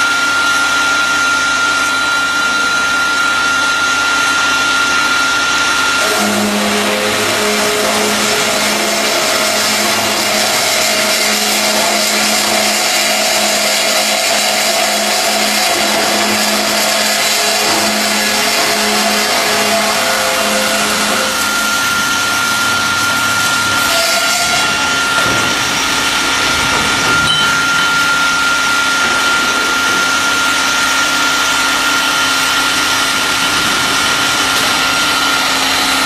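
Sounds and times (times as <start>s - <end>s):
cutting machine whirring: 0.0s - 36.0s
high machine whine: 0.0s - 36.0s
low machine hum: 0.0s - 36.0s.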